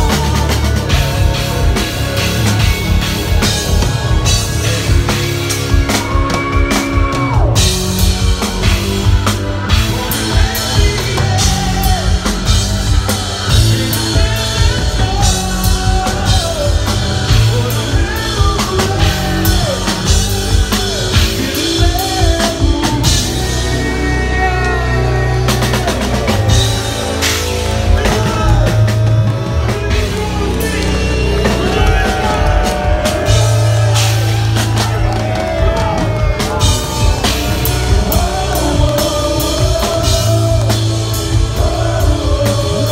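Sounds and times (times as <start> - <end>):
man singing: 0.0 - 42.9
metal band playing live: 0.0 - 42.9.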